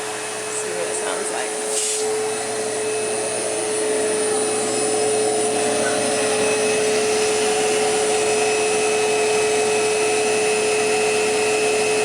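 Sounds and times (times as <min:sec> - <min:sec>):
central vacuum unit running: 0:00.0 - 0:12.0.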